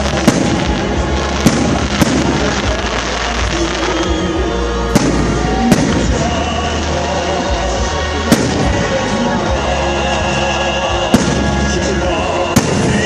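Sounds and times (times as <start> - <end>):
fireworks crackling: 0.0 - 13.0
music playing: 0.0 - 13.0.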